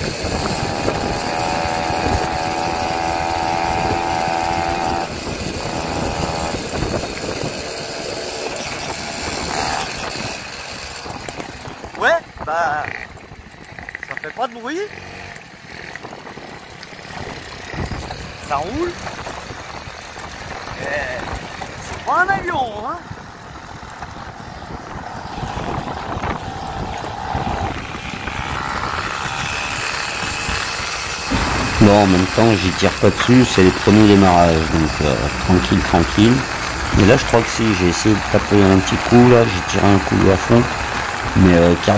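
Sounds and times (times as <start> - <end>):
wind noise on microphone: 0.0 - 14.0, 15.9 - 41.6
moped two-stroke engine running: 0.0 - 41.9.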